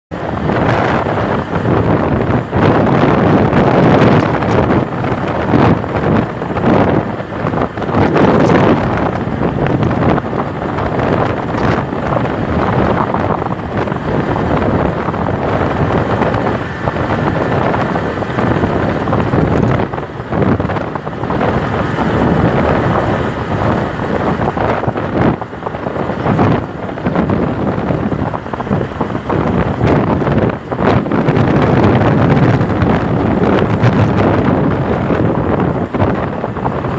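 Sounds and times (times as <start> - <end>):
motorcycle engine running: 0.1 - 36.9
wind noise on microphone: 0.1 - 36.9.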